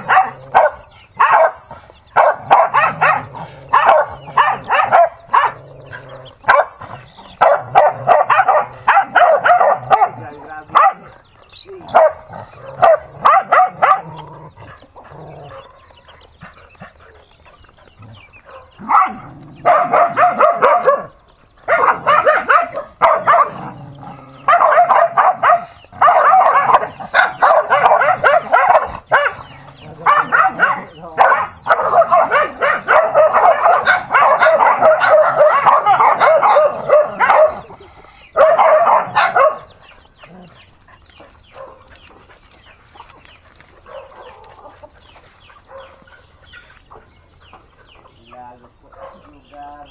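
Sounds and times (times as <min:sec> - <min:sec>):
dogs snarling and barking: 0:00.0 - 0:49.9.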